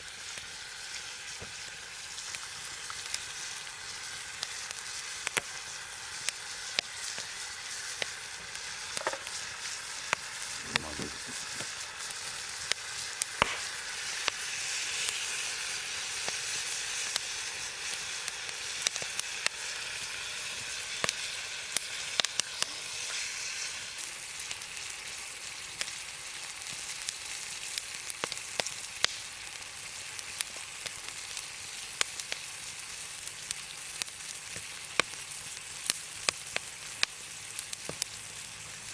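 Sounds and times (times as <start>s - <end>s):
food sizzling: 0.0s - 38.9s
fire popping and crackling: 1.3s - 23.2s, 23.9s - 38.9s.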